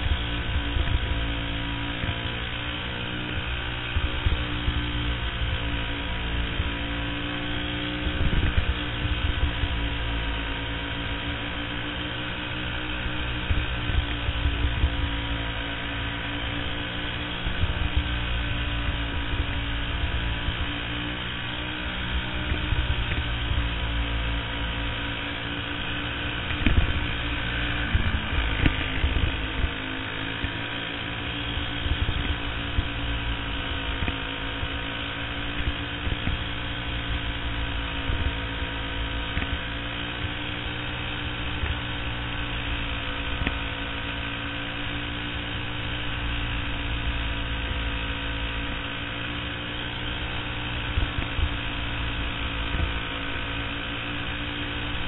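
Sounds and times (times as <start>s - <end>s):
kart engine running hard: 0.0s - 55.0s.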